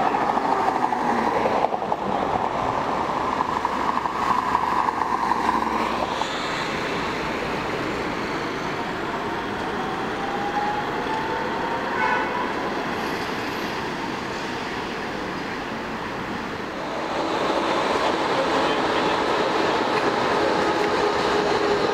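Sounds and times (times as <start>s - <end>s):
tram and traffic passing: 0.0s - 21.9s.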